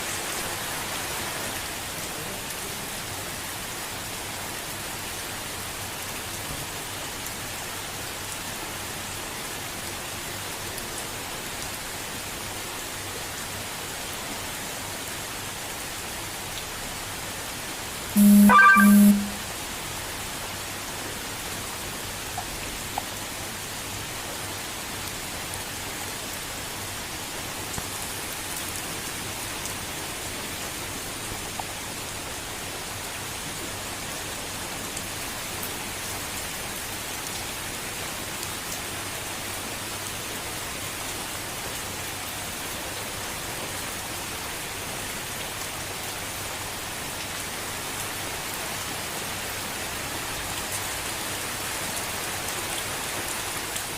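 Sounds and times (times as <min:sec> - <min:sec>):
gentle rain hissing: 0:00.0 - 0:53.9.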